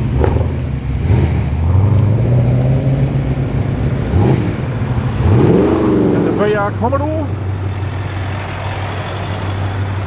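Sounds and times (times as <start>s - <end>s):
car engines passing slowly: 0.0s - 10.0s
engine throttle blips: 0.0s - 10.0s.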